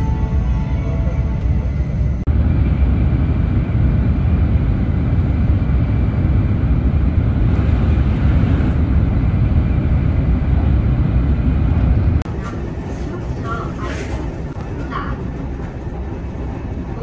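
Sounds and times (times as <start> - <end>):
train rumble inside cabin: 0.0 - 17.0.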